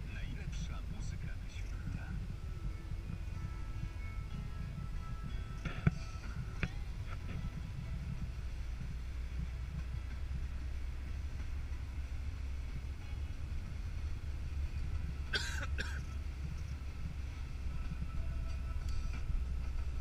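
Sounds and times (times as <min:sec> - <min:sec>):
car cabin rumble on snow: 0:00.0 - 0:20.0.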